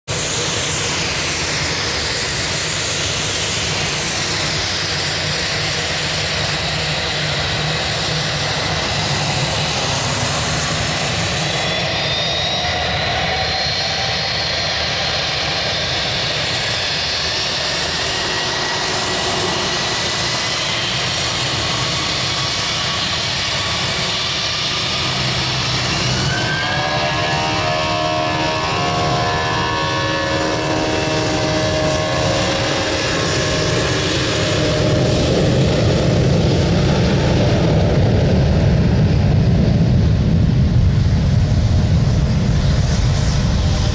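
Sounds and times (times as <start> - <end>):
jet engines spooling up: 0.0 - 43.9
jet engines whining: 0.0 - 43.9.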